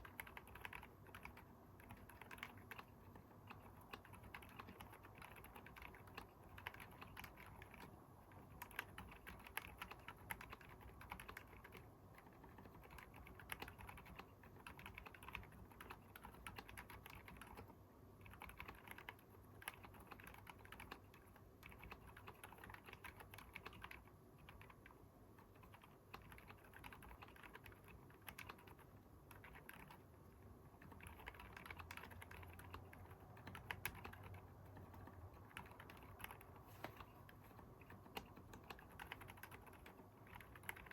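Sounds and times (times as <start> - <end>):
soft keyboard typing: 0.0 - 40.9.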